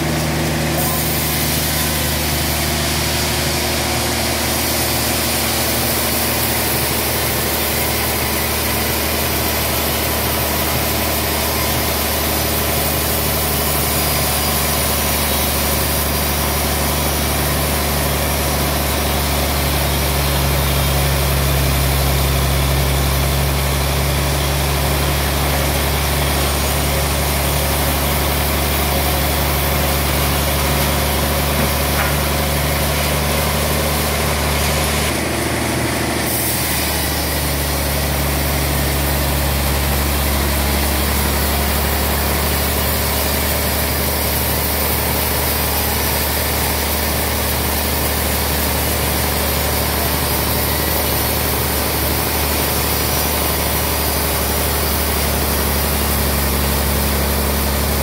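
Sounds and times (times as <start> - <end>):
band sawmill humming: 0.0 - 58.0.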